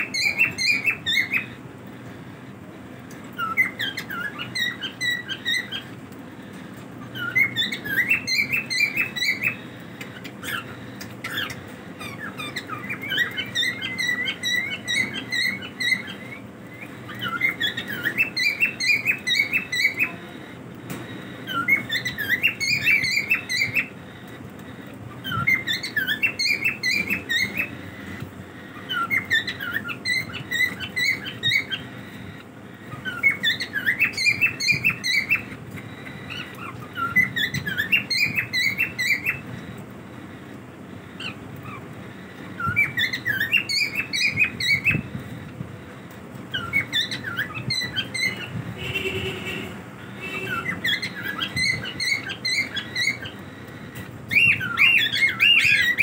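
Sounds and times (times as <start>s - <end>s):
cockatiels chirping: 0.0s - 1.6s, 3.1s - 49.1s, 50.1s - 56.0s.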